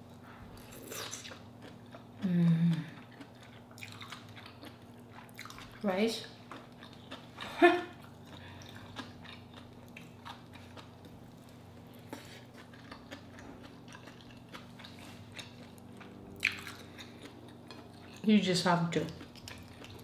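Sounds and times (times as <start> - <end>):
low background hum: 0.0 - 20.0
person chewing: 0.2 - 18.3, 19.1 - 20.0.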